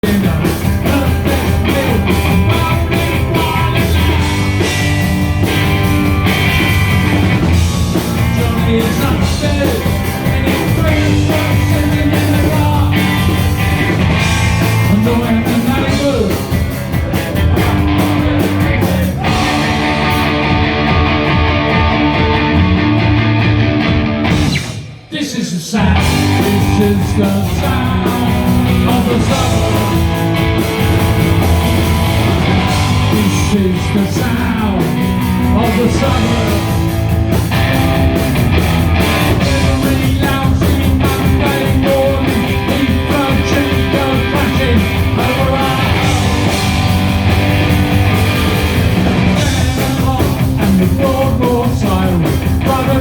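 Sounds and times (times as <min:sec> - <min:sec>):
punk rock band playing: 0:00.0 - 0:53.0.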